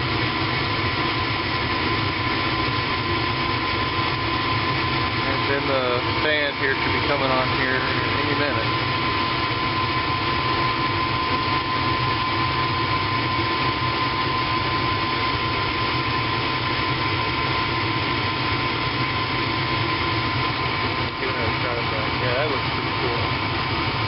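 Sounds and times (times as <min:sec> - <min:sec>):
gas furnace running: 0:00.0 - 0:24.0.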